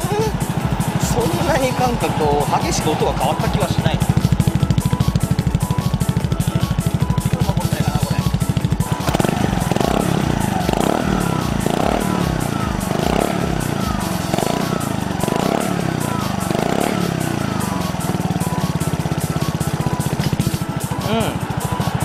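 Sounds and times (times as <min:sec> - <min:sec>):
scooter engine revving: 0:00.0 - 0:22.0.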